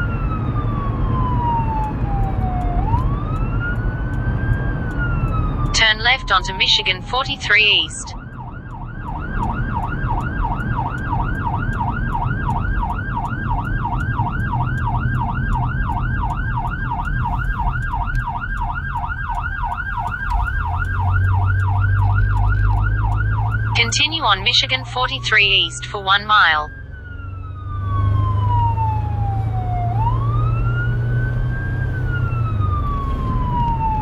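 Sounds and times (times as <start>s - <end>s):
electronic siren yelping: 0.0s - 34.0s
vehicle engine and road rumble: 0.0s - 34.0s.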